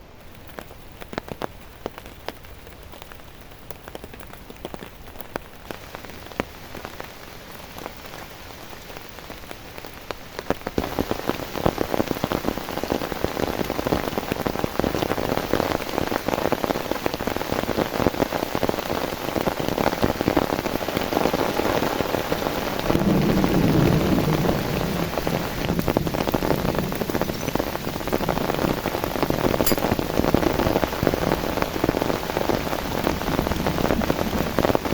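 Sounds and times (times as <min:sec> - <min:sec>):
rain pattering on a surface: 0:00.0 - 0:34.9.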